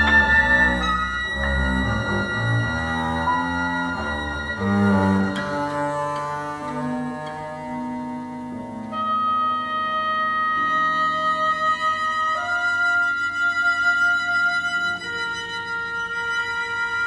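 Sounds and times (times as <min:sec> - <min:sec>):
high sustained note: 0:00.0 - 0:16.8
chamber music with long held notes: 0:00.0 - 0:17.0.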